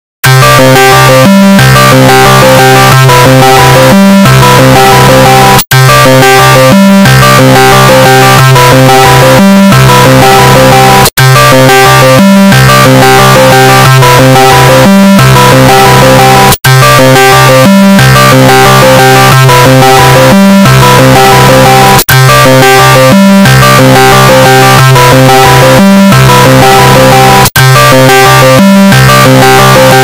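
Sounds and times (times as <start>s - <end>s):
distorted synth ringtone jingle: 0.2s - 30.0s.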